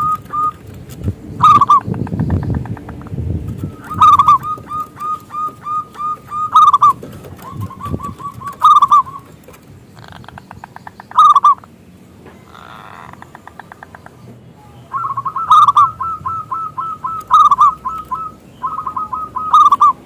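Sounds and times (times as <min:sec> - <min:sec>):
dove cooing: 0:00.0 - 0:00.7, 0:01.4 - 0:11.7, 0:12.4 - 0:20.0.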